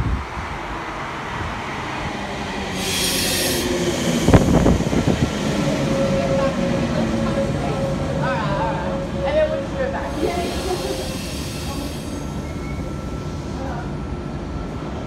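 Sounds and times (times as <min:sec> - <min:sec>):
electric train running noise: 0:02.4 - 0:15.0.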